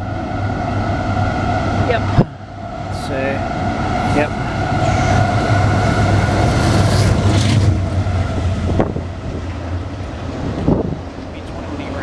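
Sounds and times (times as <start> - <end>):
freight train rumbling past: 0.0 - 12.0
wind buffeting microphone: 0.0 - 12.0.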